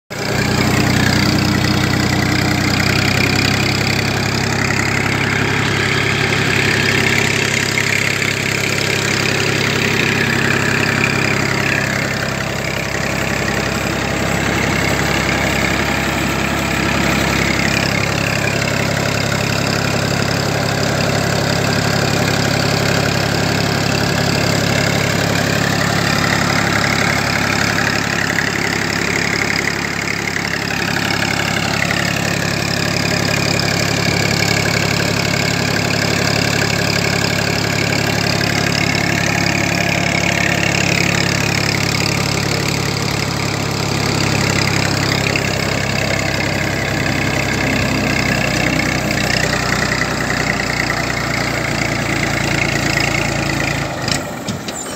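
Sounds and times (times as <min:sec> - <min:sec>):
tractor diesel engine running: 0:00.1 - 0:54.9.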